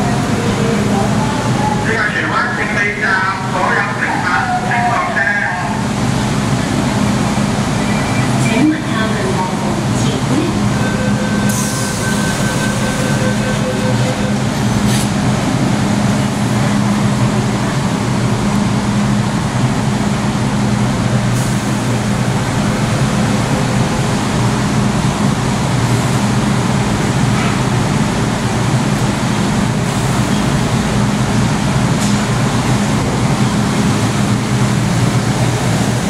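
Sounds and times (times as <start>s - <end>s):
train humming at platform: 0.0s - 36.0s.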